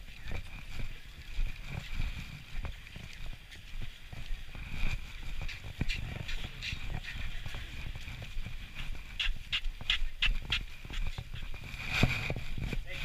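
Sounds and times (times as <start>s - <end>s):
camera jostling rumble: 0.0s - 13.0s
footsteps on paved path: 0.0s - 13.0s.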